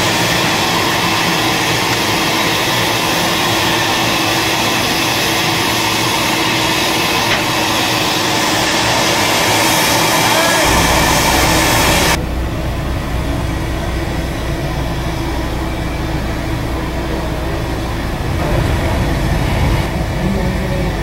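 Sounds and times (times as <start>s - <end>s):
loud airy hiss: 0.0s - 21.0s
low rumble and hum: 0.0s - 21.0s.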